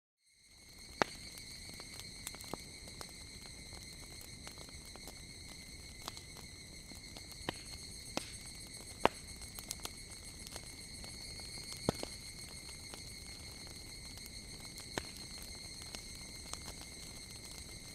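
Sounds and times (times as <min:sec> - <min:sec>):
wood fire crackling and popping: 0:00.6 - 0:17.9.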